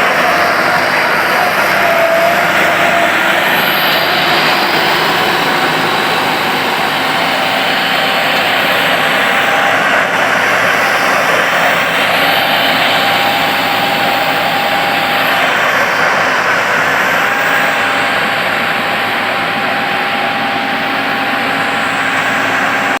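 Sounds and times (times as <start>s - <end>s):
faint steady whine: 0.0s - 23.0s
tractor engine droning: 0.0s - 23.0s.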